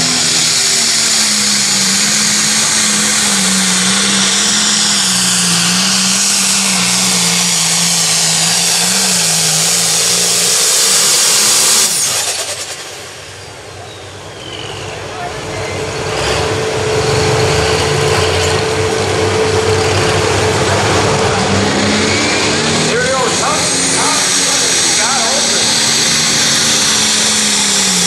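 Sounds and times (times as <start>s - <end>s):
diesel tractor engine running flat out: 0.0s - 28.0s
high turbo whine: 0.0s - 28.0s.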